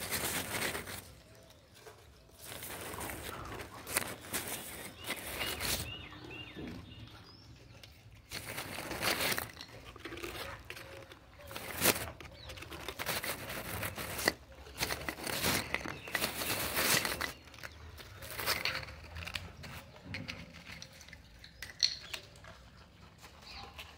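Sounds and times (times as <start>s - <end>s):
biscuits crunching: 0.0s - 6.5s, 7.6s - 23.9s
rustling against microphone: 0.0s - 21.7s.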